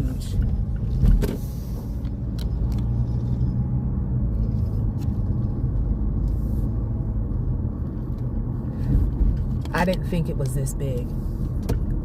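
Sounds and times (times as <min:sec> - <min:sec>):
car driving slowly: 0:00.0 - 0:12.0.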